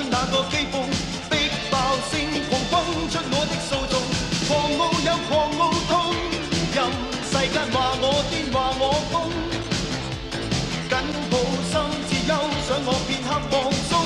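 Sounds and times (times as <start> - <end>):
pop-rock song: 0.0 - 14.0.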